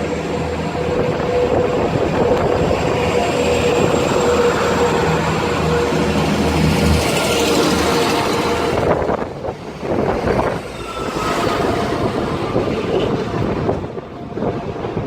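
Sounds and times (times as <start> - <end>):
diesel train engines droning: 0.0 - 15.0.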